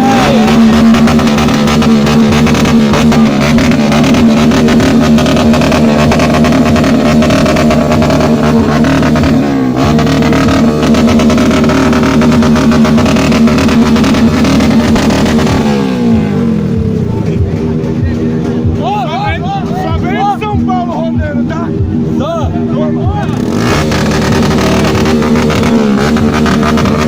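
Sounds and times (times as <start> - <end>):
motorcycle engine at high revs: 0.0 - 18.9, 19.8 - 27.0.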